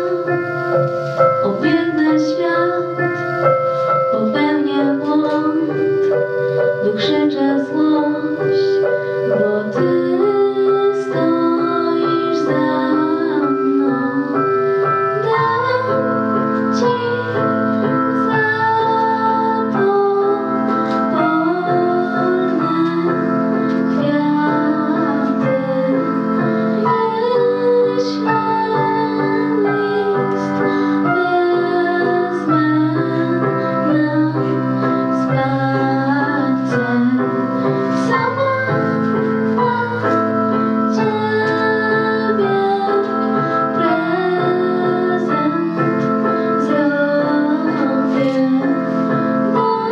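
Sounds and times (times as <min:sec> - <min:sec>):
keyboard and piano accompaniment: 0:00.0 - 0:49.9
woman singing: 0:01.2 - 0:49.9.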